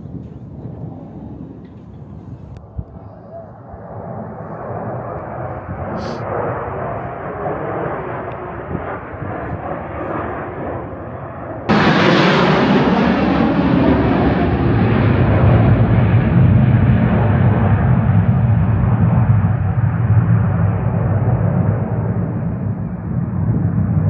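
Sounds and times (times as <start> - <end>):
airplane engines rushing: 0.0 - 24.0.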